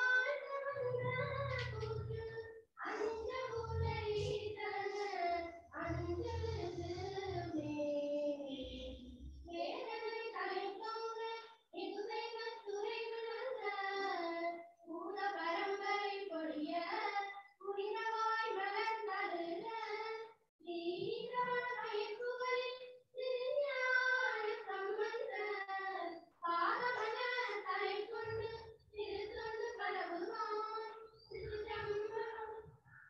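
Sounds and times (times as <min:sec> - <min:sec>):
girls singing together: 0:00.0 - 0:20.1, 0:20.7 - 0:33.0.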